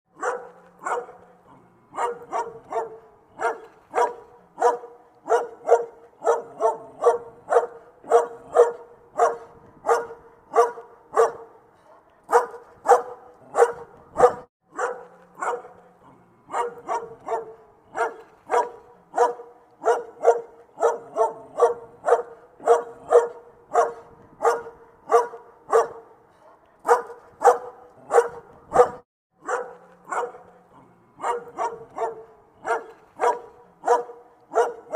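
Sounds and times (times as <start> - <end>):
dog barking: 0.1 - 11.7, 12.3 - 26.2, 26.8 - 34.9.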